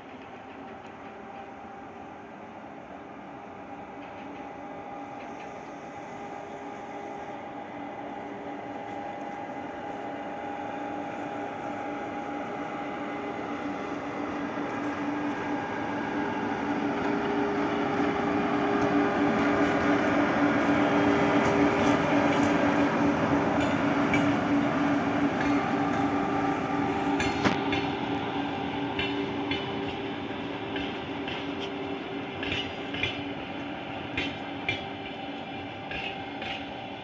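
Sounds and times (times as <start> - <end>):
electric train approaching: 0.0 - 37.0
multi-tone locomotive hum: 0.0 - 37.0.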